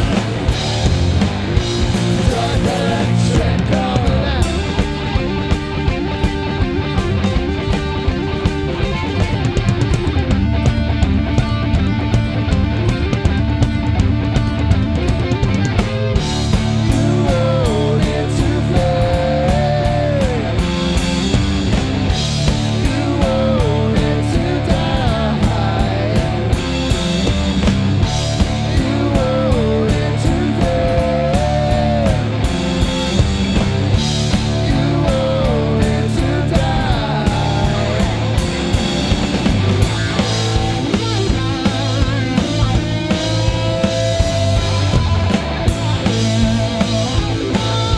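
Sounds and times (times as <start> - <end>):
live rock band playing: 0.0 - 47.9
sliding guitar lead line: 0.0 - 47.9.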